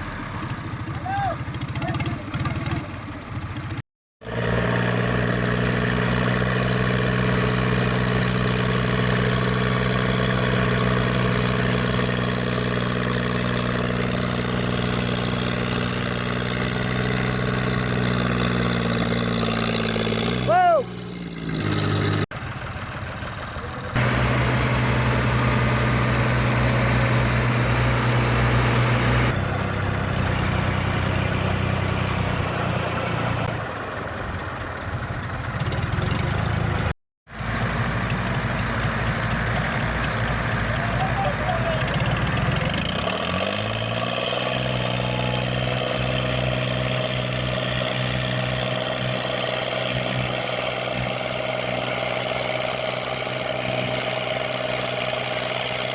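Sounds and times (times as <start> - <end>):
tractor diesel engines running hard: 0.0 - 55.9.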